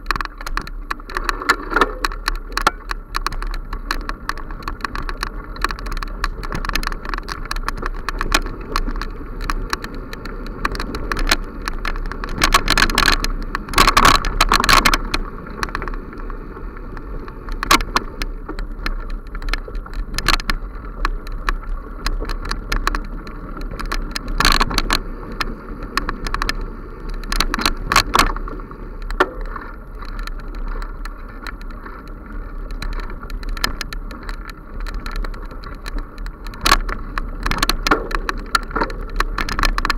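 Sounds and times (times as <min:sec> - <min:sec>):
bicycle rattles and knocks: 0:00.0 - 0:39.9
bicycle rolling on dirt trail: 0:00.0 - 0:39.9.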